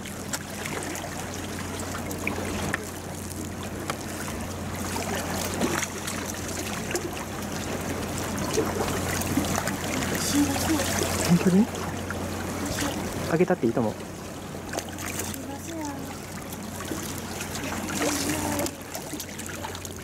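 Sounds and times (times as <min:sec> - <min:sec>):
steady low hum: 0:00.0 - 0:20.0
water lapping against seawall: 0:00.0 - 0:20.0.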